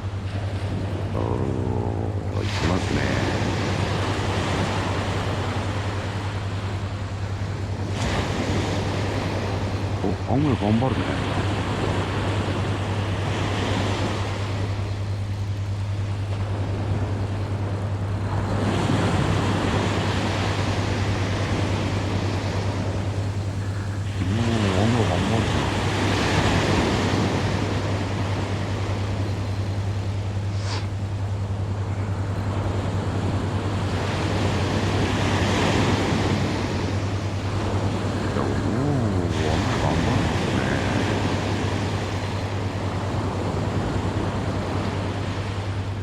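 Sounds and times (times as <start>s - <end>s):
surf breaking on beach: 0.0s - 15.3s, 16.0s - 31.5s, 32.3s - 46.0s.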